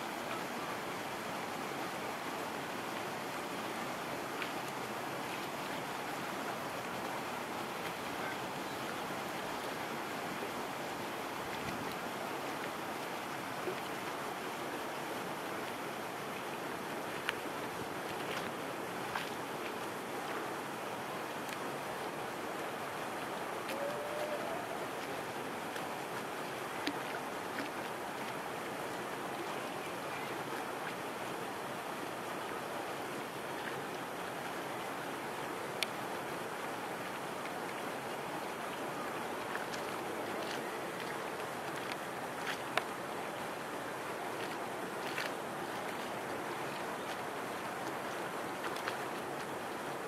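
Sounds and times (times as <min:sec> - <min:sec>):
water noise: 0:00.0 - 0:50.0
wind: 0:00.0 - 0:50.0.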